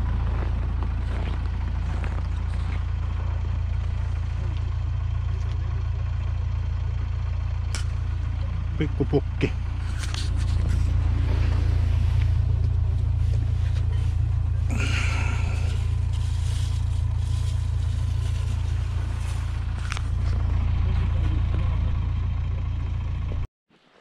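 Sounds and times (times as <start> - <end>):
tractor engine idling: 0.0 - 23.5.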